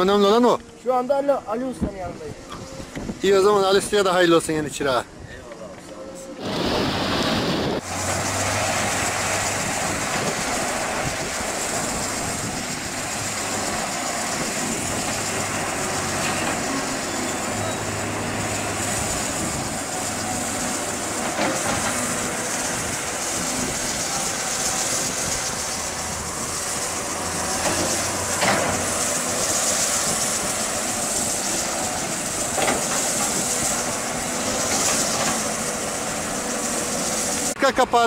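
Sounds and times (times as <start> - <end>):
excavator diesel engine running: 5.9 - 38.0
hydraulic hiss: 6.4 - 37.6.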